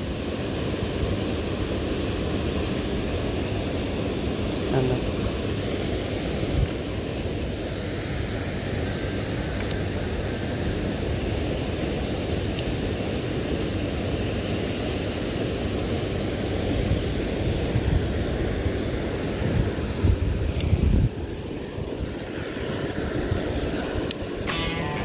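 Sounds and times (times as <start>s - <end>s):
water rushing from dam: 0.0s - 24.5s.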